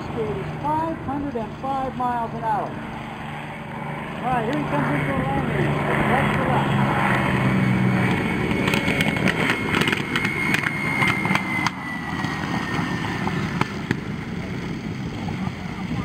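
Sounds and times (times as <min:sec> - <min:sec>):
propeller plane engine rushing: 0:00.0 - 0:16.0.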